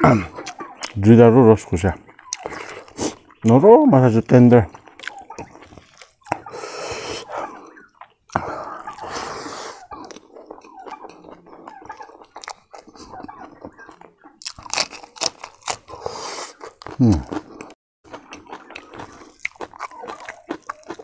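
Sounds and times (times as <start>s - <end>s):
person chewing crunchy food: 0.0s - 1.1s, 1.7s - 3.6s, 4.3s - 21.0s.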